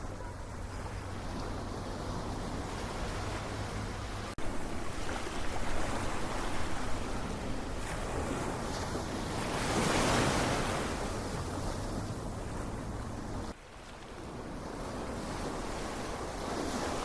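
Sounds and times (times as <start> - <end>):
ocean waves surf: 0.0 - 17.0.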